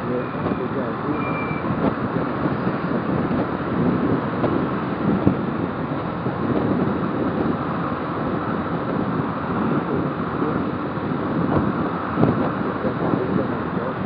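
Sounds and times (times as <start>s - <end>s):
motorcycle road noise: 0.0s - 14.0s
wind rushing over microphone: 0.0s - 14.0s.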